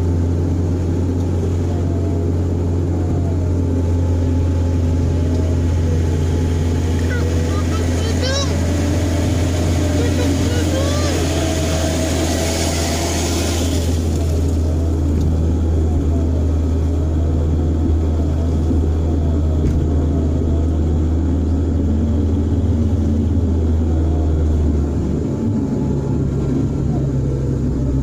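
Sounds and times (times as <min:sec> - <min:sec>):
engine note rising and falling: 0:00.0 - 0:28.0
vehicle engine low drone: 0:00.0 - 0:28.0.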